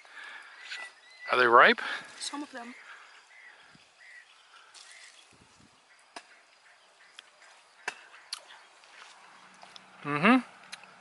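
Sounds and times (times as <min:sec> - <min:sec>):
bird-like chirps: 0:00.0 - 0:09.9
light rustles of branches: 0:01.8 - 0:11.0.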